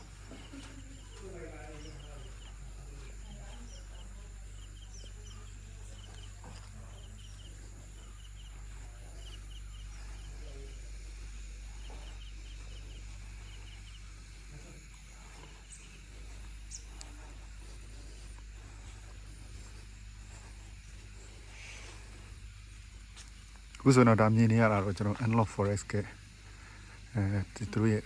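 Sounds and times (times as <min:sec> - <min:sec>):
birds chirping: 0:00.0 - 0:28.0
low background hum: 0:00.0 - 0:28.0.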